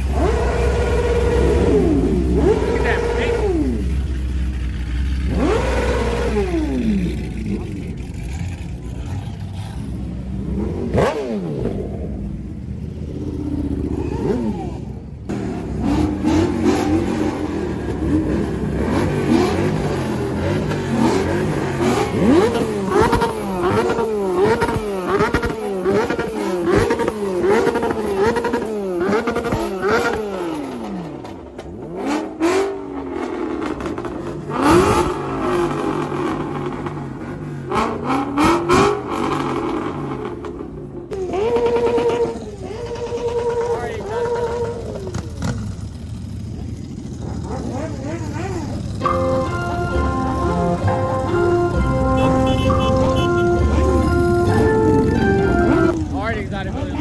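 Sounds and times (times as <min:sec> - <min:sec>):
vehicle engines revving: 0:00.0 - 0:57.0.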